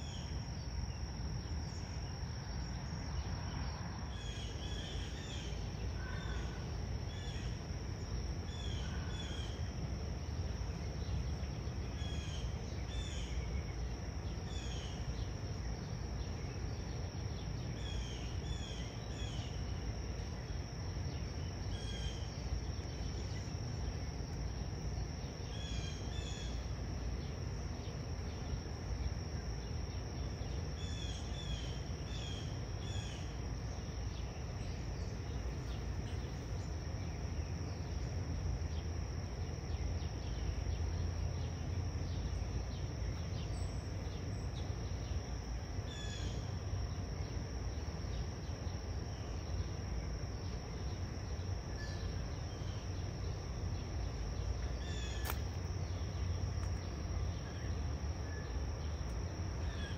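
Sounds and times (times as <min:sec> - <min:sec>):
crickets droning: 0:00.0 - 0:59.9.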